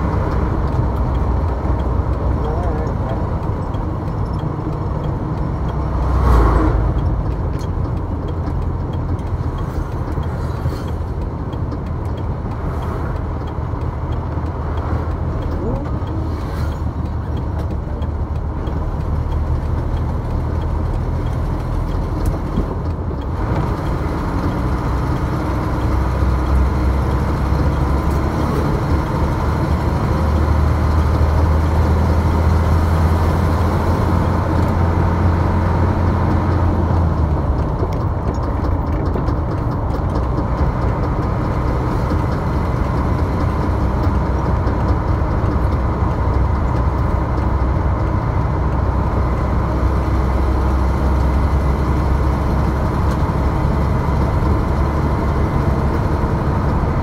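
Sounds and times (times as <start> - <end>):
vehicle driving on highway: 0.0 - 57.0.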